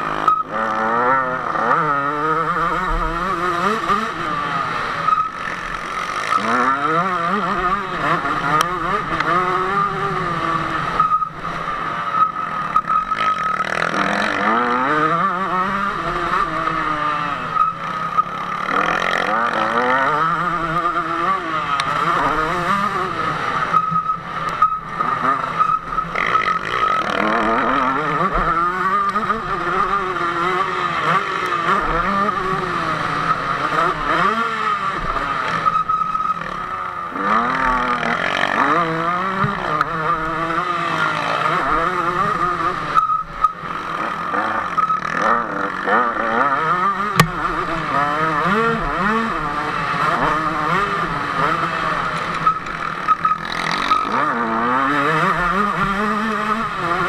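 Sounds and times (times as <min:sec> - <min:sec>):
motocross engine revving: 0:00.0 - 0:35.7, 0:36.4 - 0:43.0, 0:43.6 - 0:57.0.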